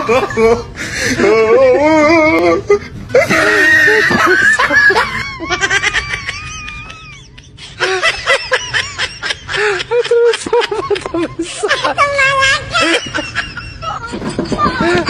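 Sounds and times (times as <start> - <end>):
loud human laughter: 0.0 - 15.0.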